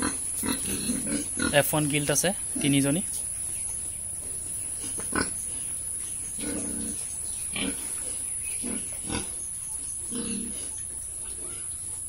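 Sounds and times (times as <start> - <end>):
pigs grunting: 0.0 - 3.4, 4.1 - 12.0.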